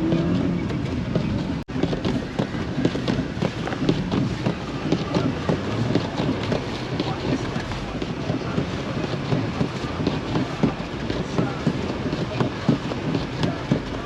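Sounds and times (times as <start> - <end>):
car driving on snowy road: 0.0 - 14.0.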